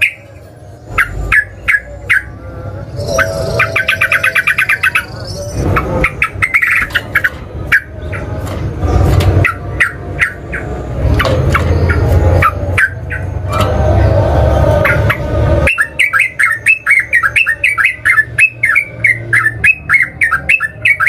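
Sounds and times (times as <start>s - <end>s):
bird song chirps and trills: 0.0s - 21.0s.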